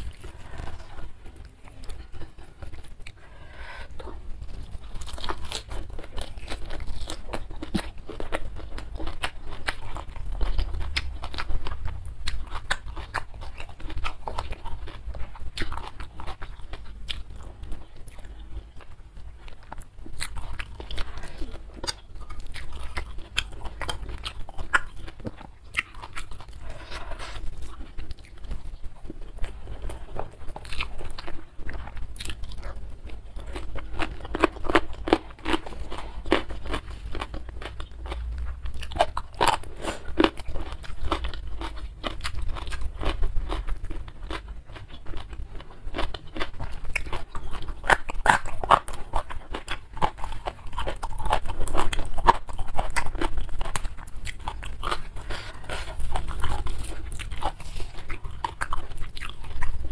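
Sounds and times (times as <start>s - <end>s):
crunchy wet chewing: 0.0s - 59.9s.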